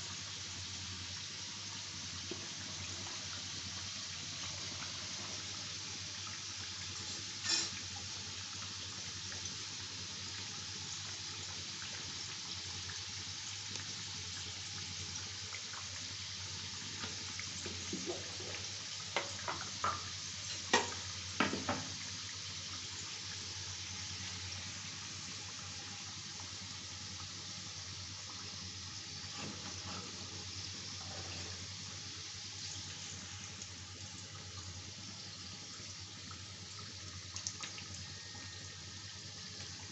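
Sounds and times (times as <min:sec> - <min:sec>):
oil sizzling: 0:00.0 - 0:39.9.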